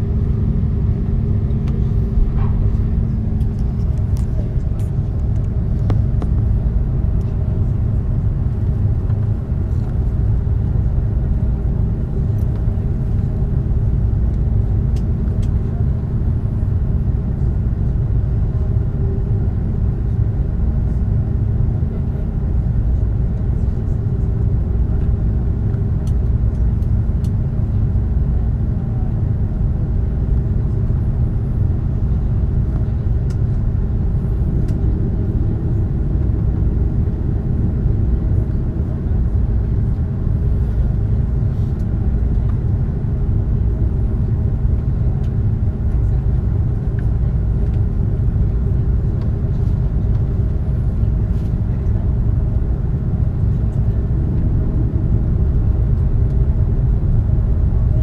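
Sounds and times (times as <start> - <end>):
aircraft cabin rumble: 0.0 - 58.0
constant hum: 0.0 - 58.0.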